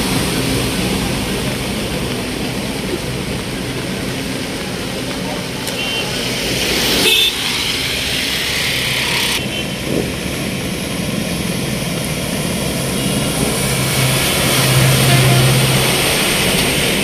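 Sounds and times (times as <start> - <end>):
traffic through flooded road: 0.0 - 17.0
truck engine hum: 0.0 - 17.0.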